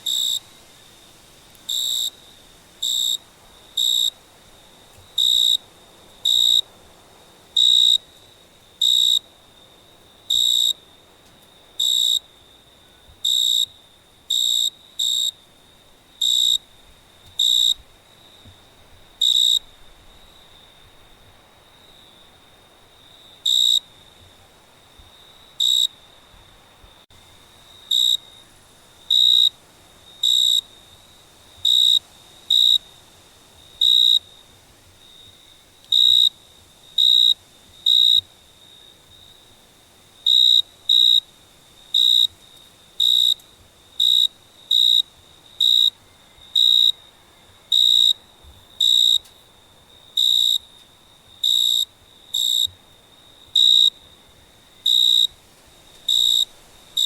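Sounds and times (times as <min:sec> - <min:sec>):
cricket chirping: 0:00.0 - 0:57.0
faint cricket trill: 0:00.0 - 0:57.0.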